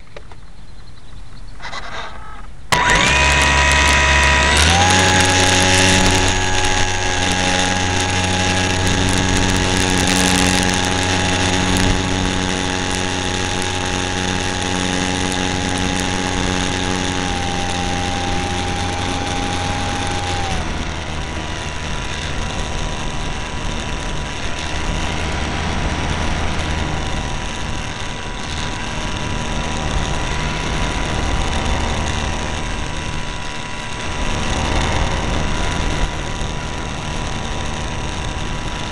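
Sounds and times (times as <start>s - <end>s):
model plane motor whining: 1.6s - 38.9s.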